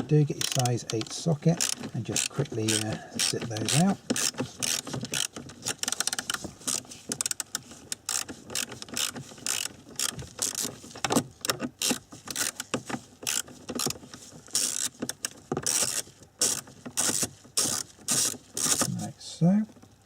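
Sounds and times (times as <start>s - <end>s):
ratchet clicking: 0.3s - 10.7s, 11.4s - 18.9s.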